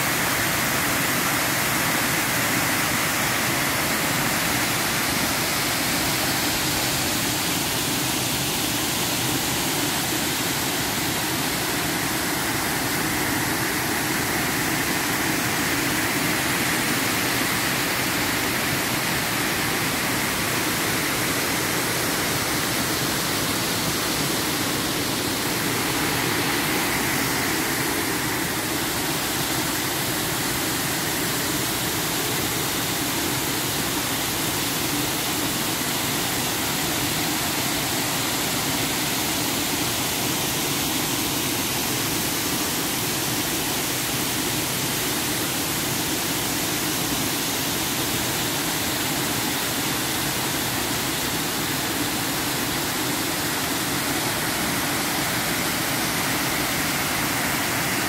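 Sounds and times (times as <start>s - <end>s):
waterfall rushing over weir: 0.0s - 58.0s.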